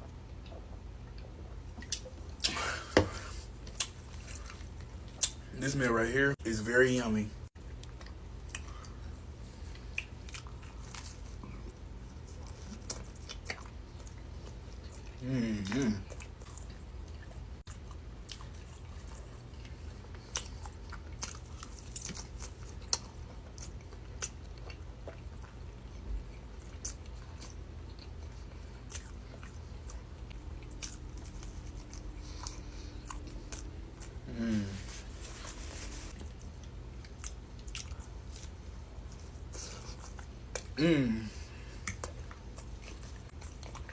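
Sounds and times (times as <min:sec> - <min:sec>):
person chewing food: 0:00.0 - 0:05.4, 0:07.6 - 0:43.9
low steady hum: 0:00.0 - 0:43.9.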